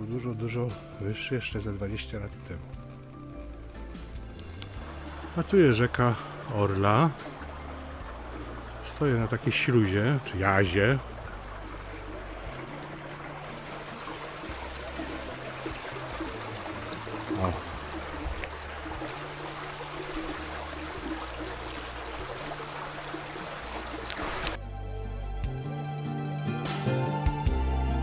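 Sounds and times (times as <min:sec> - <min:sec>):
river water flowing over stones: 0:01.6 - 0:24.6.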